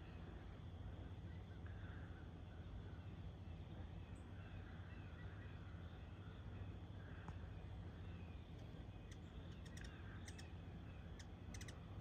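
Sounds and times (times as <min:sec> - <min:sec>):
faint bird chirps: 0:00.0 - 0:12.0
low steady rumble: 0:00.0 - 0:12.0.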